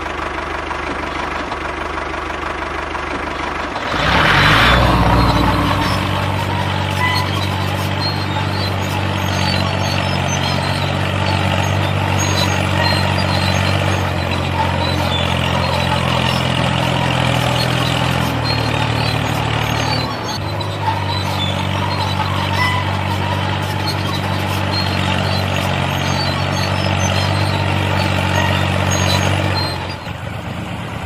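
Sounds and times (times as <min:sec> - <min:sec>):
model tractor engine humming: 0:00.0 - 0:31.0.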